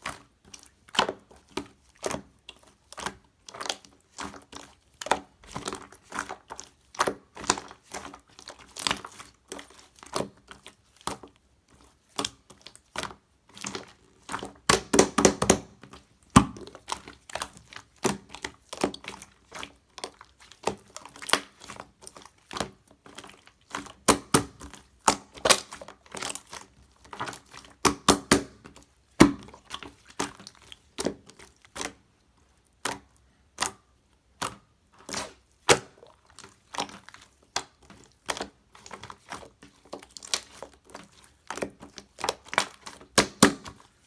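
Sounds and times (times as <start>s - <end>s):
slime squishing with clicks: 0.0s - 44.0s.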